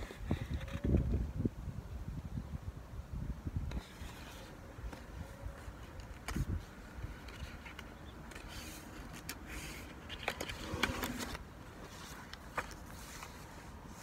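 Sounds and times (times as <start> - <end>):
book pages scraping and clicking: 0.0 - 1.1, 3.7 - 14.0.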